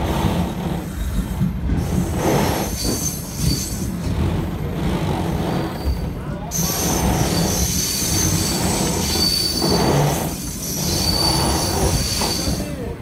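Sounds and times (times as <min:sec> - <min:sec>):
train running gear rumble: 0:00.0 - 0:13.0
train wheels squealing: 0:00.0 - 0:13.0.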